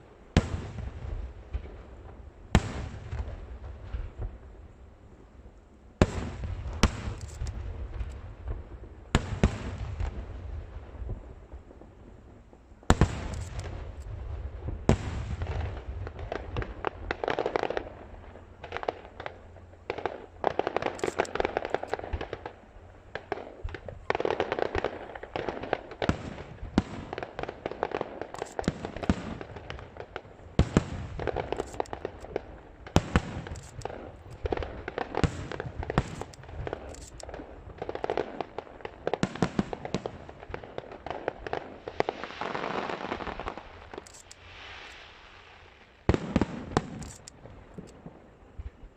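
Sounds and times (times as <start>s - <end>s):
firework shells bursting with bangs: 6.0s - 10.2s, 12.9s - 48.9s
fireworks crackling: 6.0s - 48.9s.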